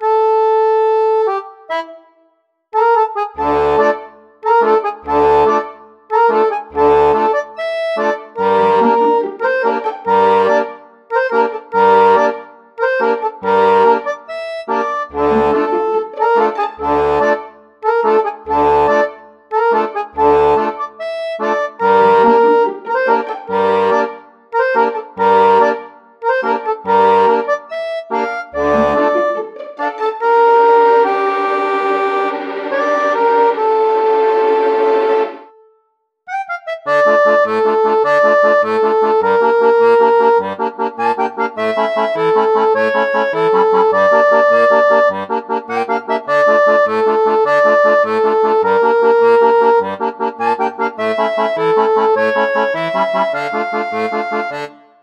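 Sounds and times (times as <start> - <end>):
instrumental music with bass: 0.0 - 2.2, 2.8 - 35.5, 36.3 - 55.0.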